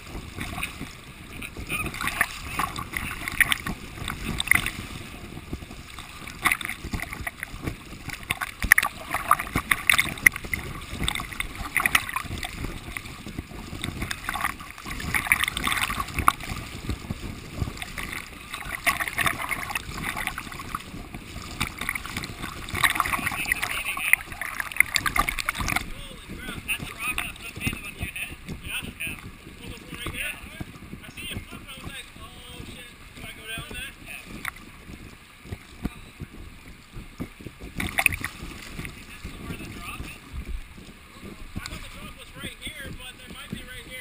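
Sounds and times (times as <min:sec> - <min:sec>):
river water rushing over rock: 0:00.0 - 0:44.0.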